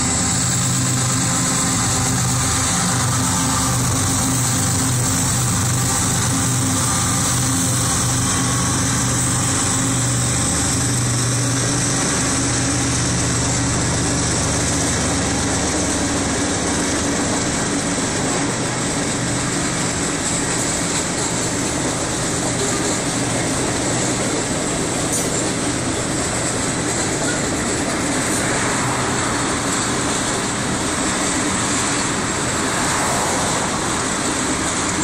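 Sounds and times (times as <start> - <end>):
diesel locomotive engine drone: 0.0 - 35.0
freight cars wheel-on-rail noise: 0.0 - 35.0.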